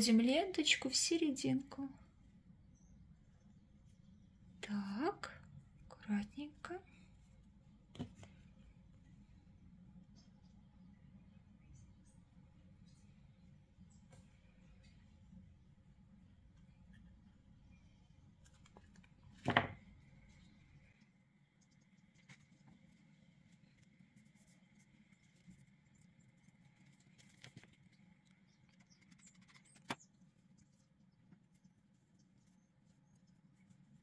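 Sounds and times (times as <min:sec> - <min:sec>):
faint rustles and ticks: 0:05.2 - 0:34.0.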